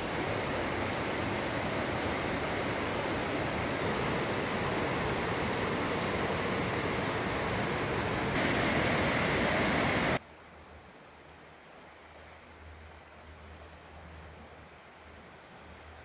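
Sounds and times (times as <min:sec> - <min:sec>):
river water rushing: 0:00.0 - 0:16.0
steady hiss: 0:00.0 - 0:16.0.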